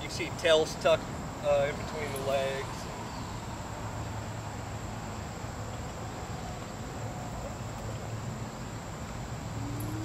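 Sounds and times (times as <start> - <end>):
high insect-like whine: 0.0 - 10.0
low steady hum: 0.4 - 10.0.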